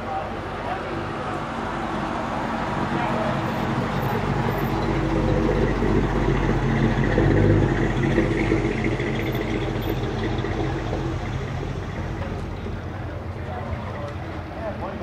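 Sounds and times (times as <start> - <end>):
cars driving slowly past: 0.0 - 15.0.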